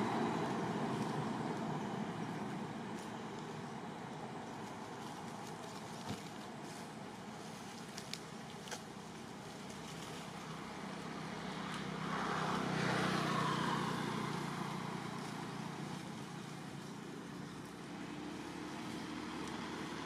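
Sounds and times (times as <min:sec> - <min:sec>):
motor vehicle passing by: 0:00.0 - 0:20.0.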